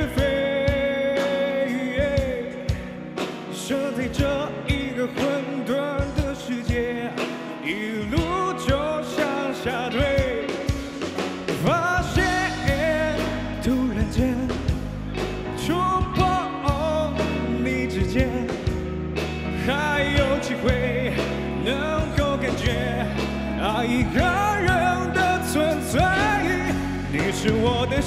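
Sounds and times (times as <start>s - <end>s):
drums: 0.0s - 28.0s
electric guitar: 0.0s - 28.0s
keyboard: 0.0s - 28.0s
man singing pop-rock ballad: 0.0s - 28.0s.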